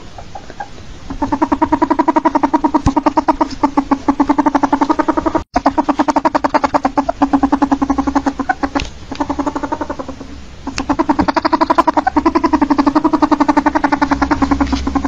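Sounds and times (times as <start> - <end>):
ferret clucking: 0.0 - 15.0.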